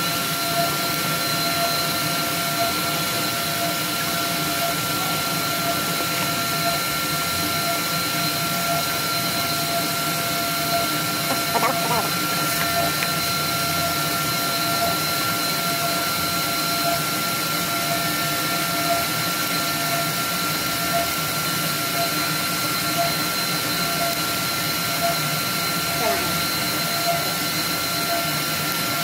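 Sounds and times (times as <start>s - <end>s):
vacuum blower whining: 0.0s - 29.0s.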